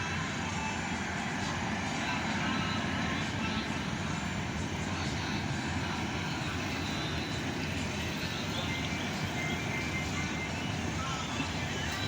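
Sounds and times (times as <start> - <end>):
airplane engines running: 0.0 - 12.0.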